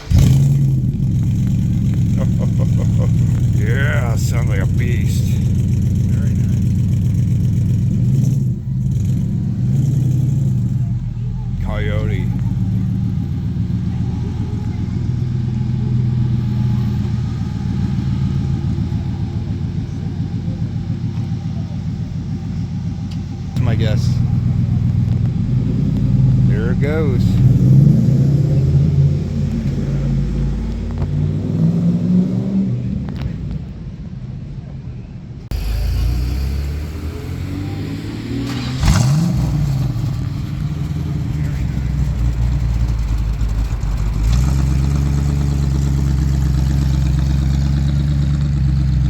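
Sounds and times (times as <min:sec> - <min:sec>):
car pulling away: 0:00.0 - 0:34.4, 0:35.4 - 0:49.0
car engine idling: 0:00.0 - 0:49.0.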